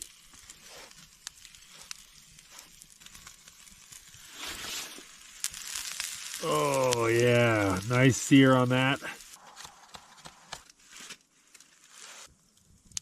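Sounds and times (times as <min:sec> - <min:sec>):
fire crackling: 0:00.0 - 0:13.0
meat sizzling over a fire: 0:00.0 - 0:13.0.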